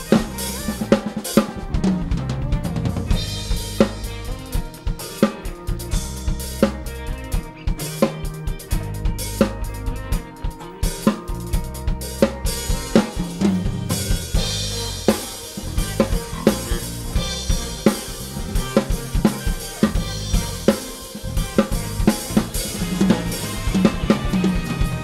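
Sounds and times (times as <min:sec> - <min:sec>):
cymbals washing: 0:00.0 - 0:01.7, 0:03.1 - 0:25.0
acoustic drum kit: 0:00.0 - 0:25.0
sustained bass line: 0:00.0 - 0:25.0.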